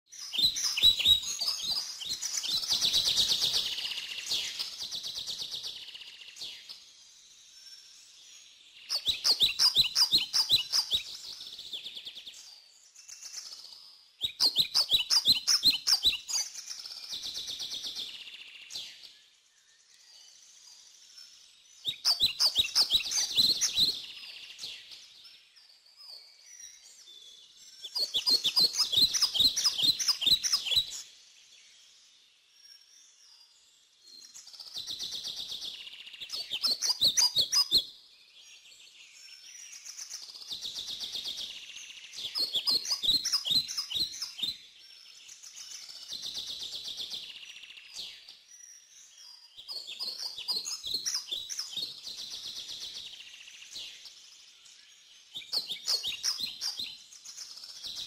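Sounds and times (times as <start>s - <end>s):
bird singing high chirps: 0.1s - 58.0s.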